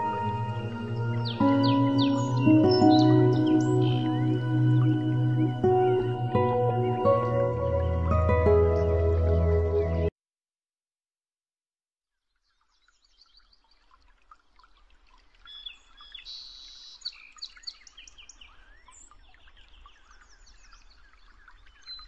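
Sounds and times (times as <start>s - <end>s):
songbirds chirping and trilling: 0.0s - 10.1s, 12.5s - 22.0s.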